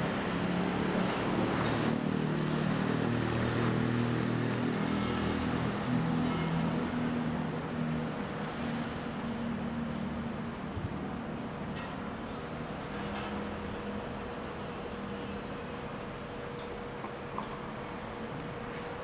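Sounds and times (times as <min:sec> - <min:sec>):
heavy machinery engines droning: 0:00.0 - 0:19.0.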